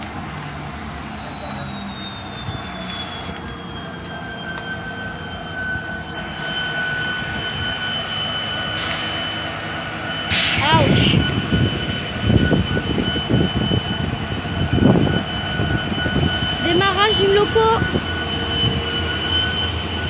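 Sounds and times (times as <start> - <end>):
diesel locomotive engine idling: 0.0 - 20.0
high whine falling in pitch: 0.0 - 20.0
lower whine: 0.0 - 20.0.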